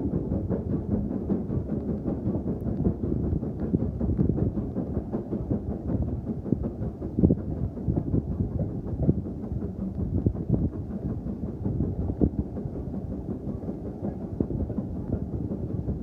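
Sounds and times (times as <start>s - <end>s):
railway carriage rumbling on track: 0.0s - 16.0s.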